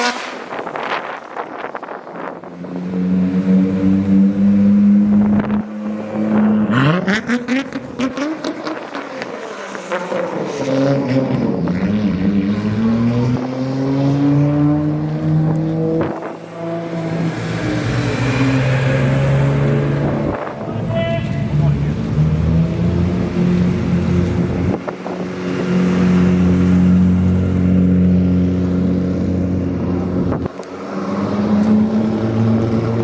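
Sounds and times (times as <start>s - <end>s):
car engines revving: 0.0s - 33.0s
engines driving off: 0.0s - 33.0s.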